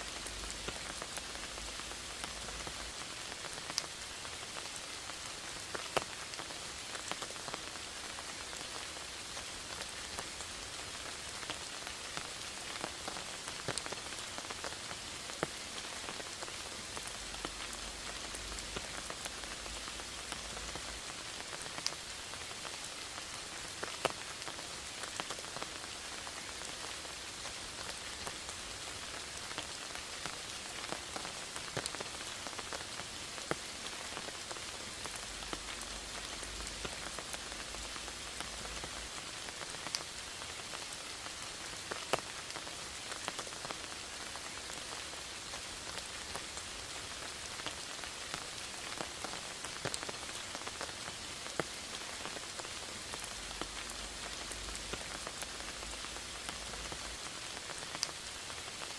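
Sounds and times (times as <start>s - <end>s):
rain patter: 0.0s - 58.9s.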